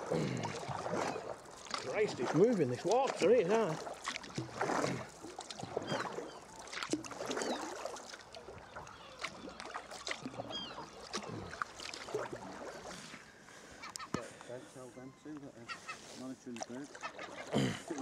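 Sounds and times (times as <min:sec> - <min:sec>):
paddle strokes splashing: 0:00.0 - 0:18.0
seabird calls: 0:00.0 - 0:18.0
water rushing along hull: 0:00.0 - 0:18.0.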